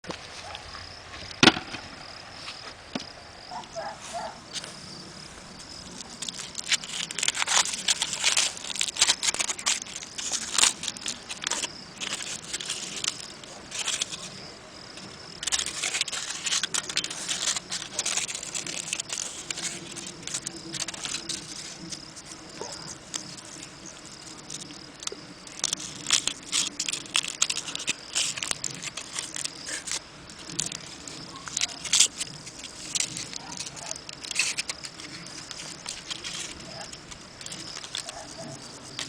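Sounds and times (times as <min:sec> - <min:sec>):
meat grinder crackling and scraping: 0:05.8 - 0:39.0.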